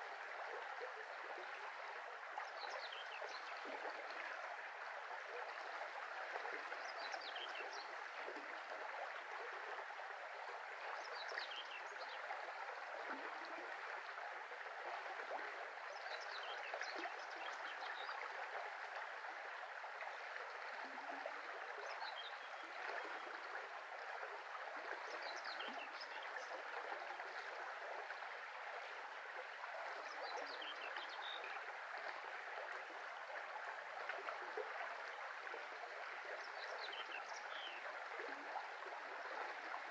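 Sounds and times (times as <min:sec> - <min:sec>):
shallow brook flowing: 0:00.0 - 0:39.9.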